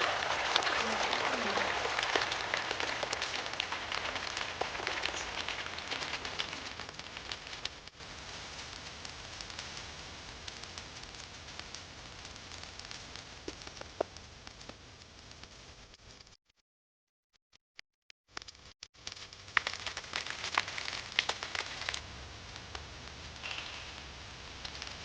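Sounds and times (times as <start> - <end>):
rain falling: 0.0 - 14.8, 19.5 - 25.0.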